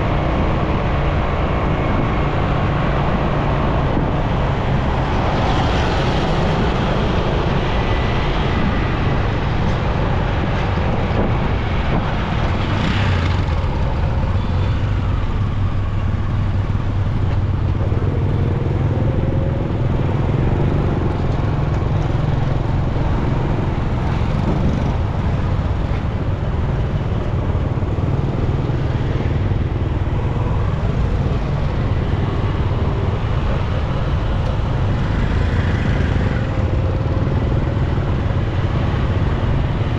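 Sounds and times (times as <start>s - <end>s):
traffic noise: 0.0s - 39.9s.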